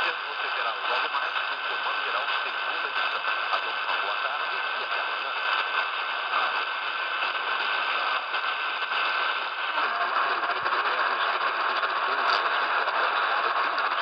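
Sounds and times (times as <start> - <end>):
faint radio station: 0.0 - 14.0
radio static hiss: 0.0 - 14.0
radio tuning click: 0.0 - 14.0.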